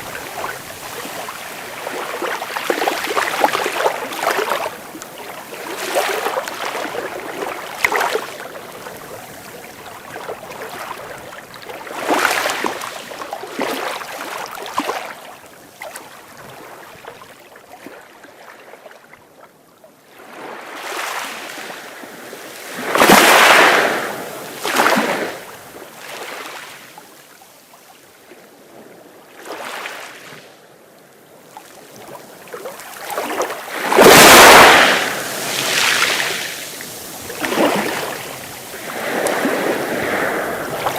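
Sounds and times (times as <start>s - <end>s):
sea waves breaking on shore: 0.0s - 19.0s, 20.1s - 30.6s, 31.3s - 40.9s.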